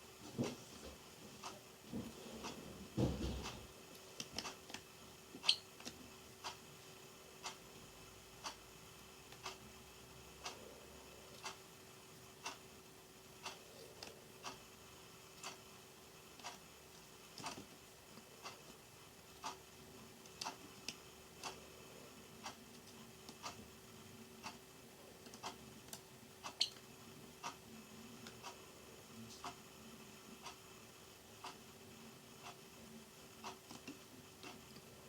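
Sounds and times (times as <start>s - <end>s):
faint steady hum: 0.0s - 35.0s
clock ticking: 0.4s - 35.0s.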